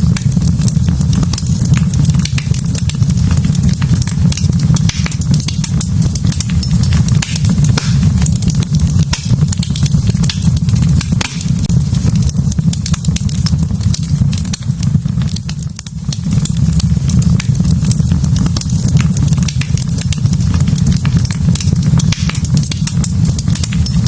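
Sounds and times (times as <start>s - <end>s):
low rumble: 0.0s - 22.1s
wood fire crackling: 0.0s - 24.0s.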